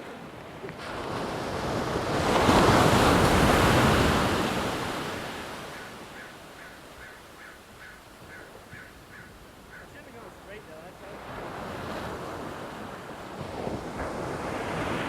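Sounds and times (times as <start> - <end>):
ocean wave breaking: 0.0 - 7.2, 9.9 - 15.0.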